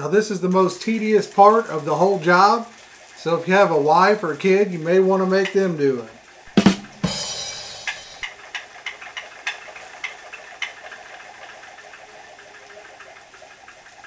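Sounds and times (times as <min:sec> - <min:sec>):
faint reel whir: 0:00.0 - 0:14.0
fishing reel ticking: 0:00.1 - 0:14.0.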